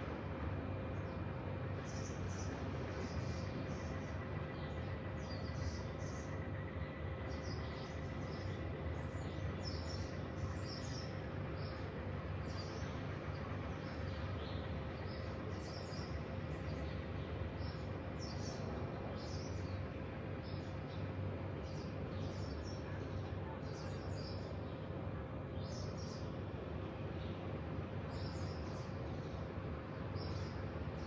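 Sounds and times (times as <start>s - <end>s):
faint steady hum: 0.0s - 31.0s
low background rumble: 0.0s - 31.0s
small birds chirping: 0.3s - 31.0s.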